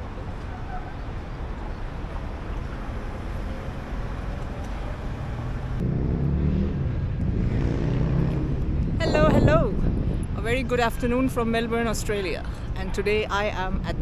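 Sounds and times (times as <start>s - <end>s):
vehicle engine droning: 0.0s - 11.8s
traffic rumble: 0.0s - 14.0s.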